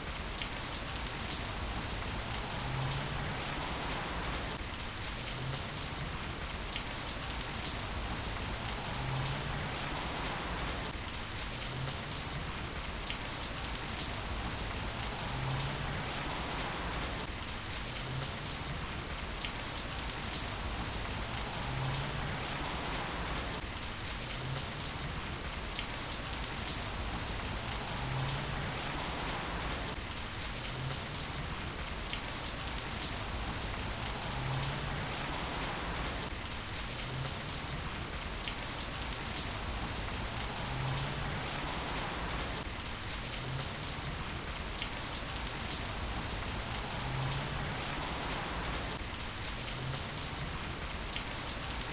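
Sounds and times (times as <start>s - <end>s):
heavy rain falling: 0.0s - 51.9s
raindrops tapping surfaces: 0.0s - 51.9s.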